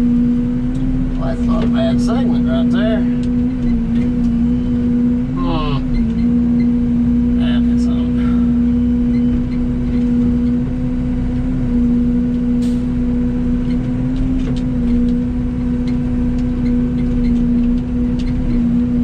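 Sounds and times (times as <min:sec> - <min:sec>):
diesel excavator engine running: 0:00.0 - 0:19.0.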